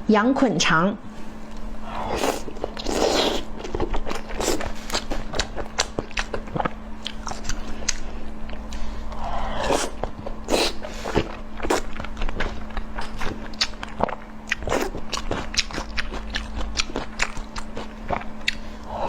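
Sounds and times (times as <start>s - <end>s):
faint steady hum: 0.0s - 19.0s
person chewing crunchy food: 1.8s - 19.0s.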